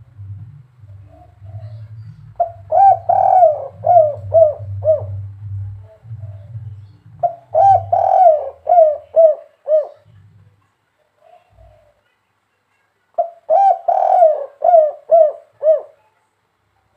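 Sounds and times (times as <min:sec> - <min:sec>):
dove cooing: 0:00.0 - 0:10.5, 0:11.2 - 0:12.0, 0:13.2 - 0:16.1.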